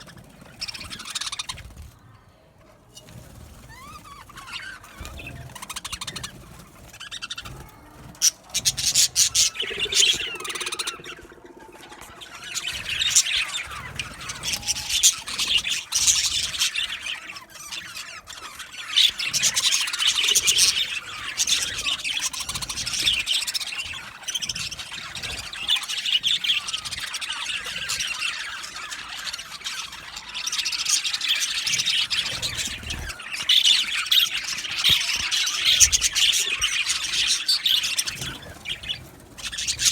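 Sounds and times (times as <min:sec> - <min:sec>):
flock of birds chattering: 0:00.0 - 0:39.9.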